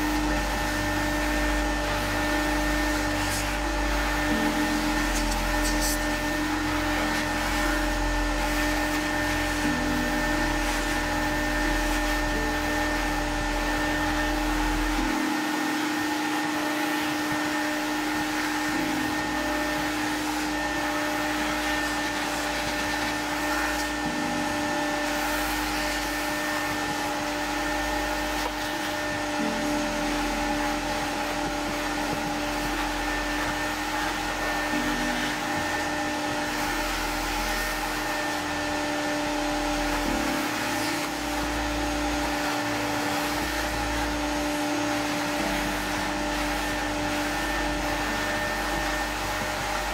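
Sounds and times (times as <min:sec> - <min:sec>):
vacuum motor whining: 0:00.0 - 0:49.9.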